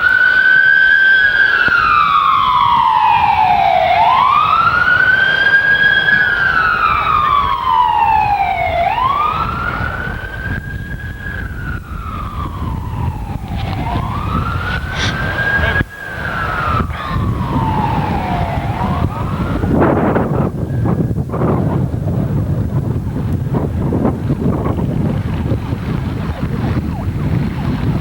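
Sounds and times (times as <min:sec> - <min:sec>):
siren wailing: 0:00.0 - 0:21.8, 0:24.2 - 0:28.0.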